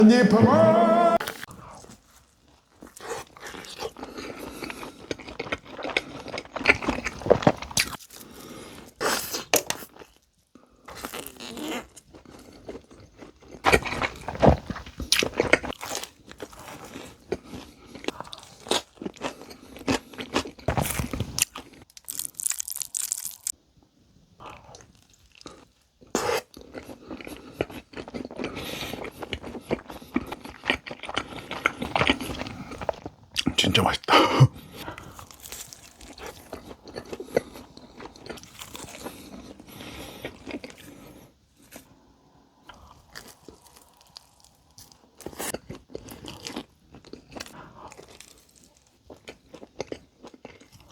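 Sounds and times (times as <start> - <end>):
pizza bites crunching and chewing: 1.2 - 23.6, 24.4 - 41.9, 42.6 - 50.9.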